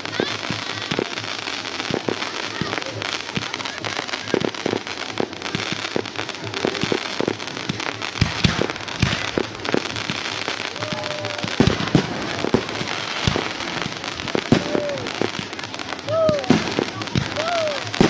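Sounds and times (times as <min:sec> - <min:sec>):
firework crackle: 0:00.0 - 0:18.0.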